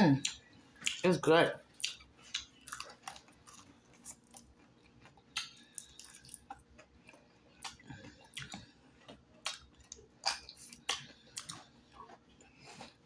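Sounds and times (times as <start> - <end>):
chewing crispy fried meat: 0.0 - 13.0.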